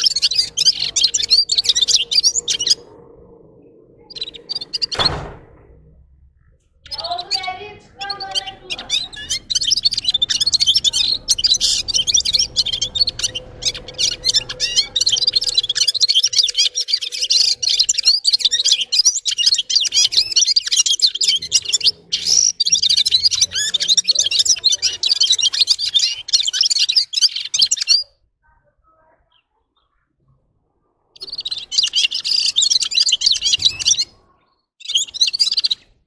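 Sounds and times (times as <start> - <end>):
bird twittering song: 0.0 - 5.7, 6.4 - 28.2, 29.1 - 36.0.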